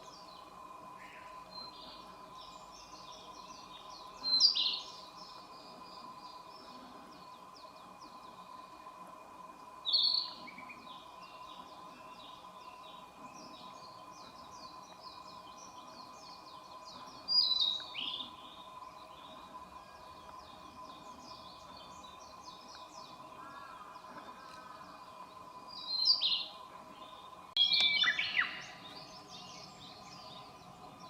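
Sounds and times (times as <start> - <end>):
faint steady tone: 0.0 - 31.0
songbirds chirping: 0.0 - 31.0.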